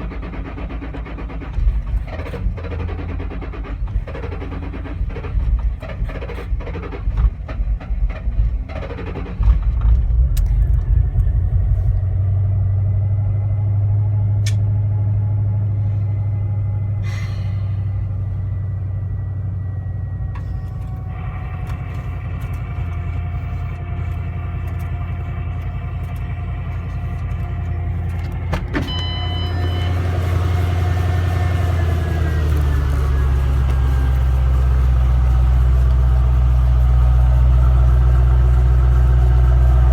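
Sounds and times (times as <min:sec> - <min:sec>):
car engine stumbling then idling: 0:00.0 - 0:39.9.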